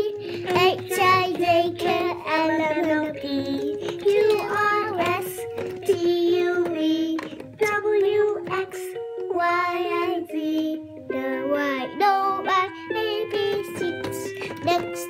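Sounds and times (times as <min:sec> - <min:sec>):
child-like sung voice: 0:00.0 - 0:15.0.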